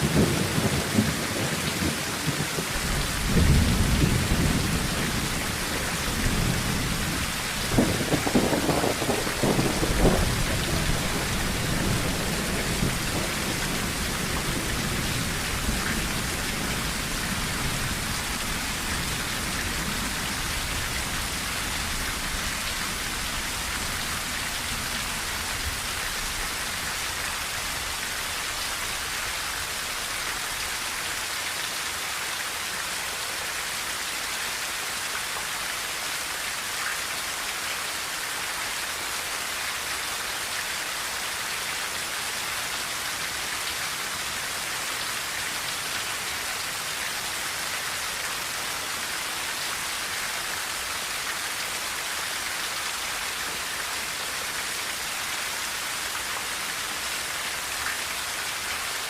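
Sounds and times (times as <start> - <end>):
rain on a tin roof: 0.0 - 59.0.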